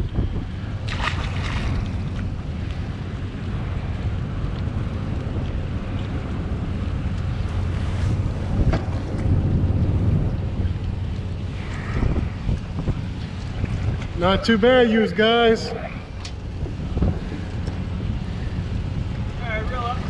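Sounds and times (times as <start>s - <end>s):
choppy water: 0.0s - 20.0s
wind buffeting microphone: 0.0s - 20.0s.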